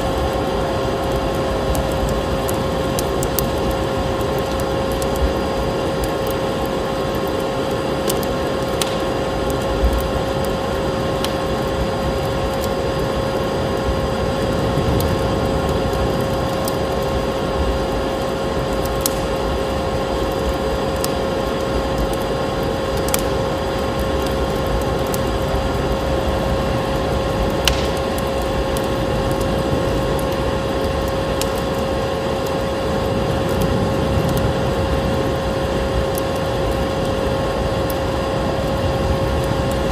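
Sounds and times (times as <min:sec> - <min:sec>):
storm wind hiss: 0:00.0 - 0:39.9
wood fire crackling: 0:00.0 - 0:39.9.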